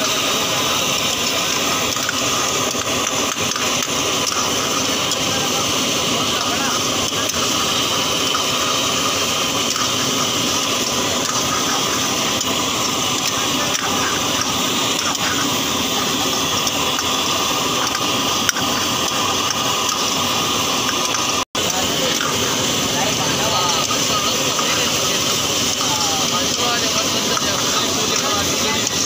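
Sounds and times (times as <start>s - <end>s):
food sizzling in a wok: 0.0s - 29.0s
gas burner running: 0.0s - 29.0s.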